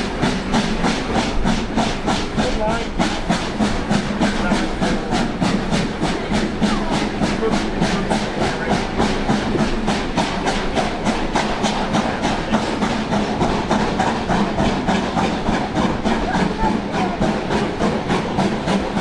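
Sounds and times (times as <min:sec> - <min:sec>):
steady steam hiss: 0:00.0 - 0:19.0
steam locomotive exhaust beats: 0:00.0 - 0:19.0.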